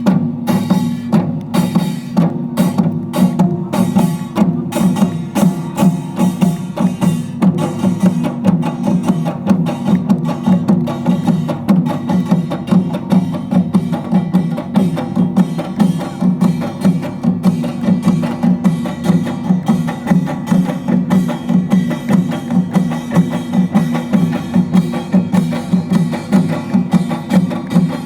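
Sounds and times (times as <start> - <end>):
barrel drum: 0.0 - 28.0
hourglass drum: 0.0 - 28.0.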